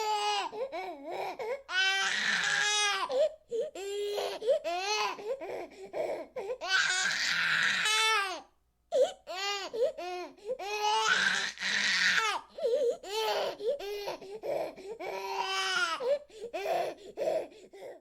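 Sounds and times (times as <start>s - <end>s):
baby crying: 0.0s - 18.0s.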